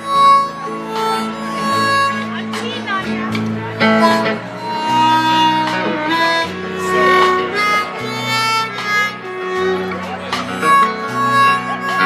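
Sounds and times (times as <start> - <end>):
acoustic guitar: 0.0 - 12.0
bass: 0.0 - 12.0
harmonica long notes: 0.0 - 12.0.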